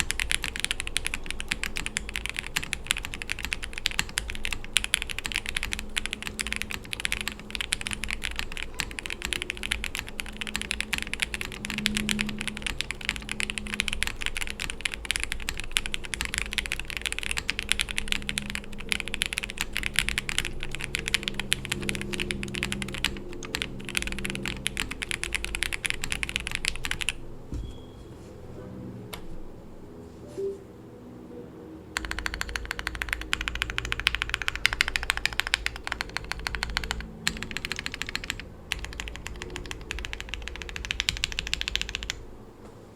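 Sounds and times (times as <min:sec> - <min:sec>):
fast typing on mechanical keyboard: 0:00.0 - 0:27.2, 0:32.0 - 0:42.3.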